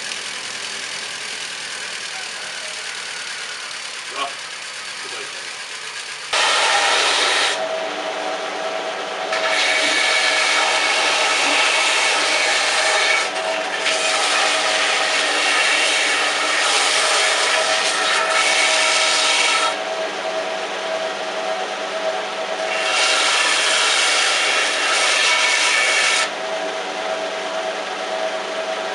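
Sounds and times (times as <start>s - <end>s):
sander grinding wood: 0.0s - 20.2s, 22.5s - 26.8s.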